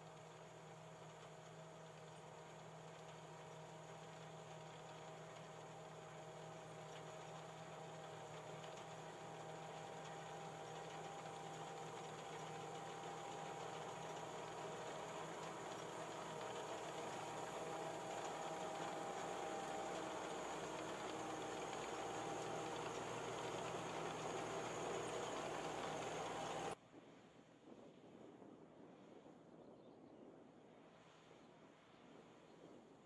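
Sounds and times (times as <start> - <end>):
combine harvester humming: 0.1 - 26.8.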